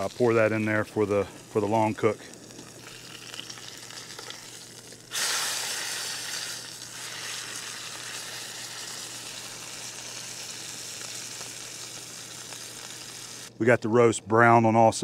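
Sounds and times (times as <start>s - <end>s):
meat sizzling in oil: 0.0s - 13.5s.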